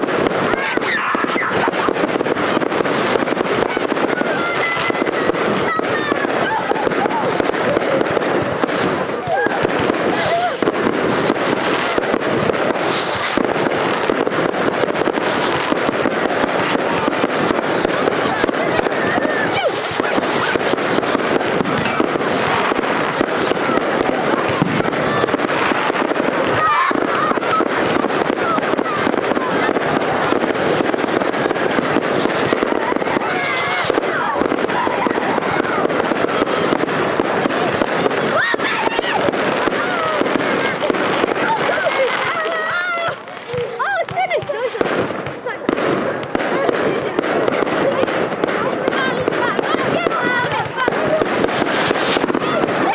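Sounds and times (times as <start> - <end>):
crowd voices and shouts: 0.0 - 52.9
fireworks crackling: 0.0 - 52.9.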